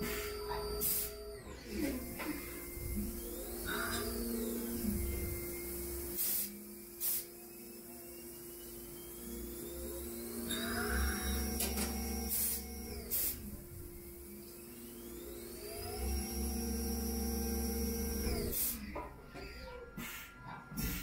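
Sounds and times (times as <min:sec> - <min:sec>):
lathe machine hum: 0:00.0 - 0:19.6
spindle whine: 0:00.0 - 0:20.6.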